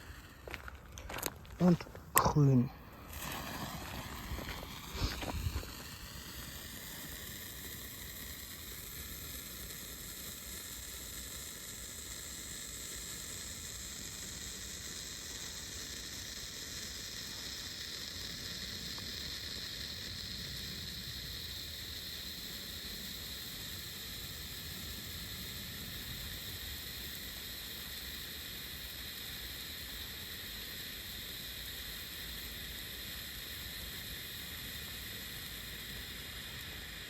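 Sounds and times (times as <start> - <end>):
firework hissing sparks: 0.0 - 37.0.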